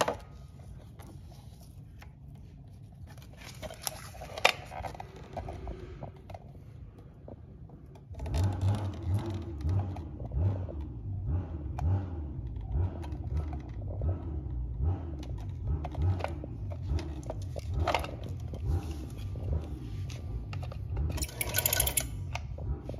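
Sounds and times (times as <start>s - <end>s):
rumbling handling noise: 0.0s - 22.9s.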